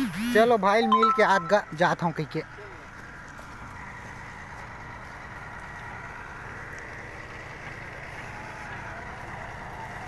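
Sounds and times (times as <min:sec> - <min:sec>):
low engine throb: 0:00.0 - 0:10.0.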